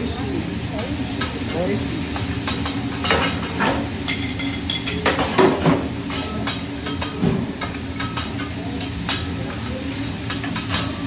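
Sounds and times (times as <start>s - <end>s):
food sizzling: 0.0s - 11.0s
metal spatulas clinking on griddle: 1.2s - 11.0s.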